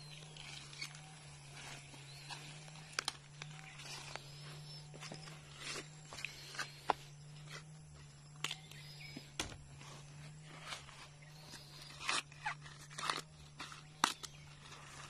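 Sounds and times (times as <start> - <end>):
corn husks tearing and rustling: 0.0 - 15.0.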